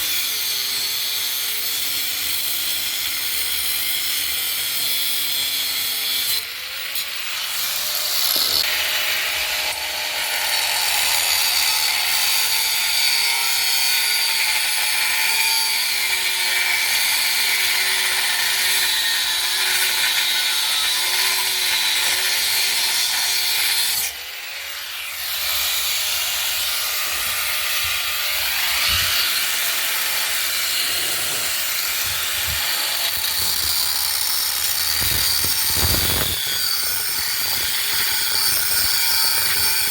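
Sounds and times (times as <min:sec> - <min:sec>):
handheld power tool running: 0:00.0 - 0:39.9.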